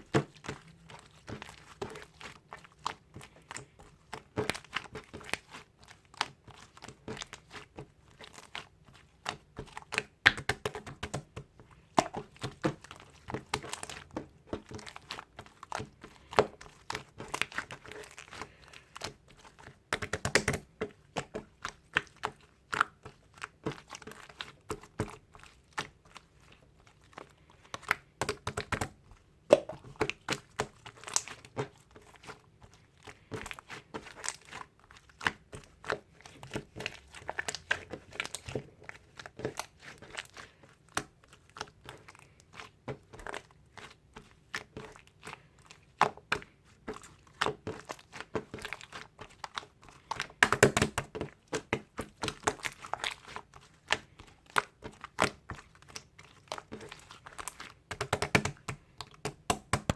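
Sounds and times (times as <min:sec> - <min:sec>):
slime squished by hand: 0:00.0 - 0:59.9.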